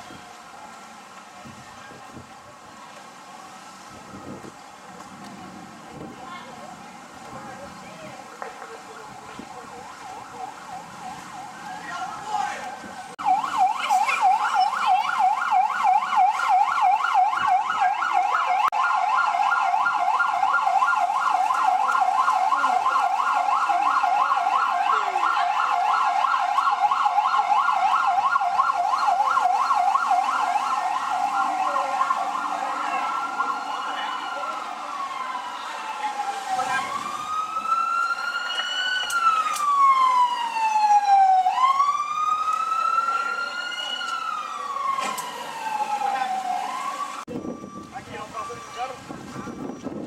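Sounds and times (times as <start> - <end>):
emergency siren yelping: 9.4 - 50.0.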